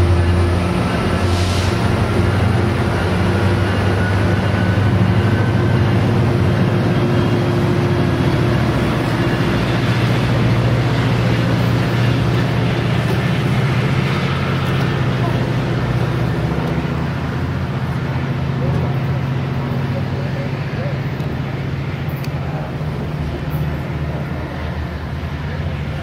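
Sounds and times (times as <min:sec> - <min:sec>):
locomotive engine drone: 0:00.0 - 0:26.0
train rumble: 0:00.0 - 0:26.0.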